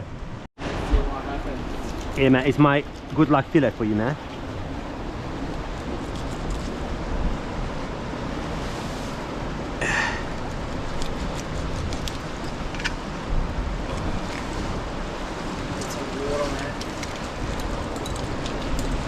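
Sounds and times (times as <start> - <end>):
ocean surf on rocks: 0.0 - 19.0.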